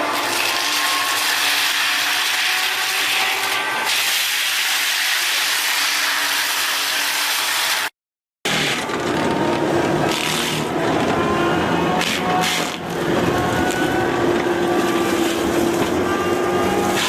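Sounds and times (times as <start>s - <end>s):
forestry machine working wood: 0.0s - 7.9s, 8.5s - 17.0s.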